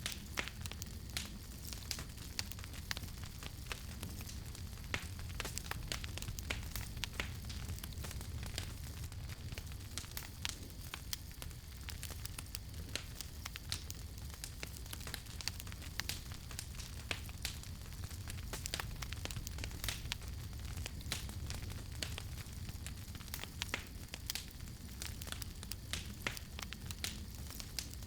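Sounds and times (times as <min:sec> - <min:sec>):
campfire crackling and popping: 0:00.0 - 0:28.0
low rumble of flame: 0:00.0 - 0:28.0.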